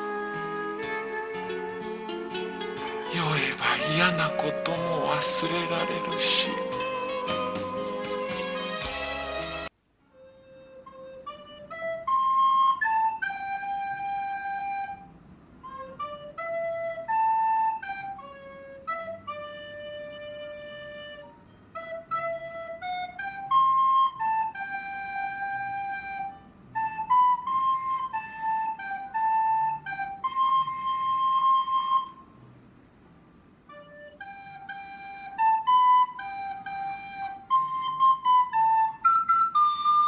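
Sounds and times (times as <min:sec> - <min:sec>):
recorder melody: 0:00.0 - 0:32.4, 0:33.6 - 0:40.0.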